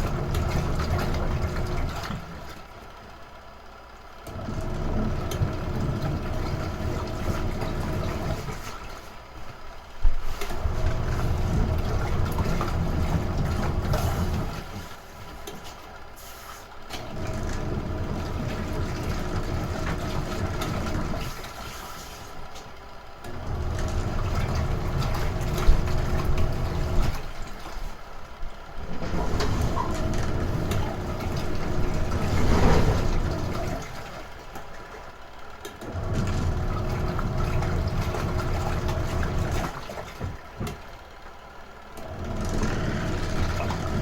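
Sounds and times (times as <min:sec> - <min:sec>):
washing machine motor rumbling: 0:00.0 - 0:44.0.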